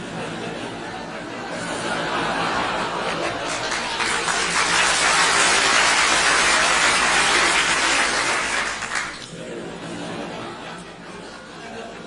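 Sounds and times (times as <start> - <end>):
large crowd noise: 0.0 - 12.0.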